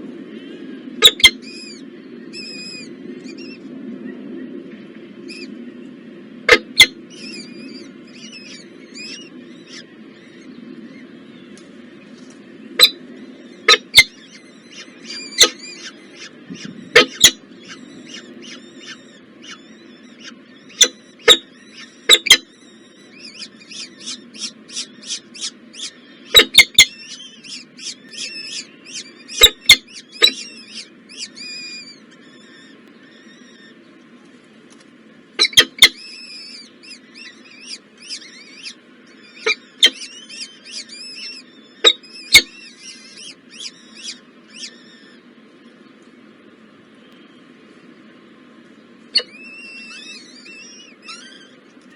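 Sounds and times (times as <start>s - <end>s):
nestling birds cheeping: 0.0s - 51.9s
steady low hum: 0.0s - 51.9s.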